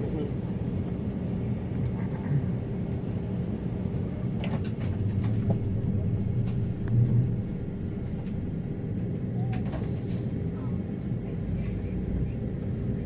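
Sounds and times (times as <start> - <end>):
aircraft cabin rumble and hum: 0.0 - 13.0.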